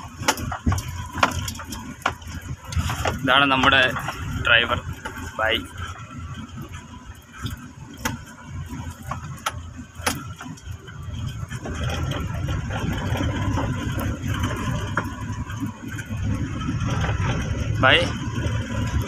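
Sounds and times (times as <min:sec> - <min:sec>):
engine and road noise in cabin: 0:00.0 - 0:19.0
sharp rattles and knocks: 0:00.0 - 0:19.0.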